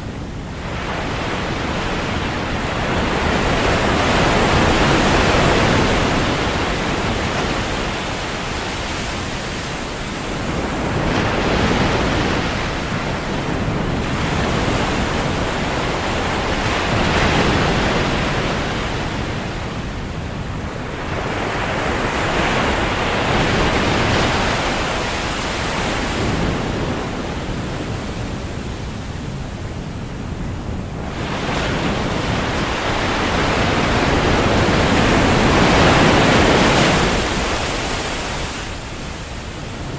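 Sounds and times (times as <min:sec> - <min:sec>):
waves breaking on a sandy beach: 0:00.0 - 0:39.9.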